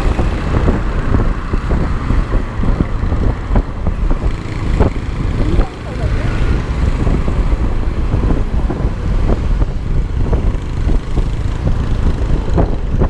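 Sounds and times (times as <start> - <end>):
scooter engine running: 0.0 - 13.0
wind buffeting microphone: 0.0 - 13.0.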